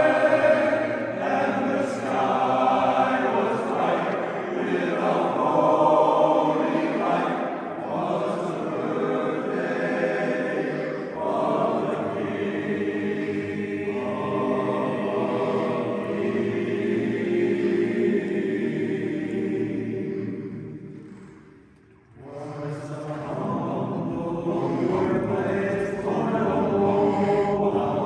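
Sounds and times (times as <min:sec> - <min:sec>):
chorus singing a cappella: 0:00.0 - 0:28.0.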